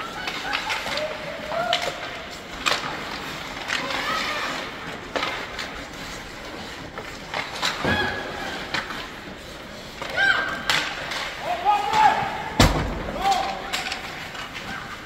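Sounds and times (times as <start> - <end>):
hockey sticks and pucks clacking: 0.0 - 15.0.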